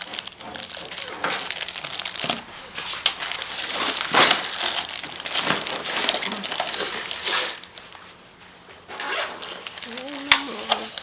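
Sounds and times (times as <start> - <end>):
small hard objects clicking: 0.0 - 7.8, 9.5 - 11.0
packaging rustling: 0.0 - 11.0.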